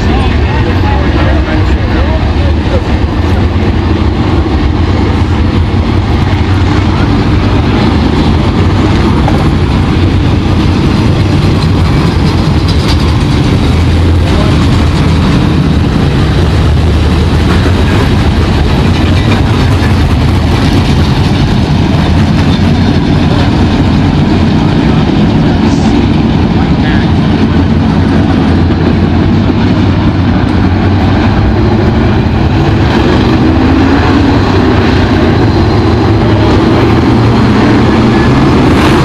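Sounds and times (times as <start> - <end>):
race car engines rumbling: 0.0 - 39.0.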